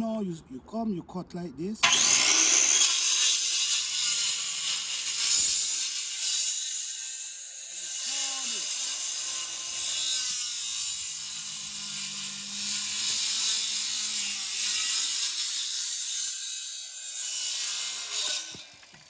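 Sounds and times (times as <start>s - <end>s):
circular saw cutting wood: 1.8s - 19.0s.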